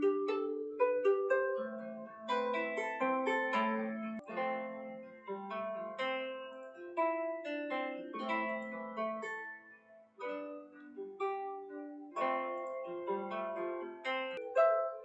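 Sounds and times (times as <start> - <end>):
plucked string melody: 0.0 - 15.0.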